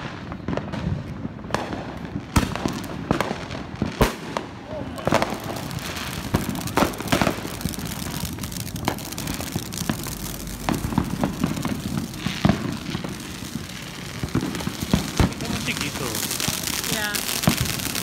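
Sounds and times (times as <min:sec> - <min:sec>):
distant fireworks crackling rumble: 0:00.0 - 0:18.0
firecracker pops and bangs: 0:00.0 - 0:18.0.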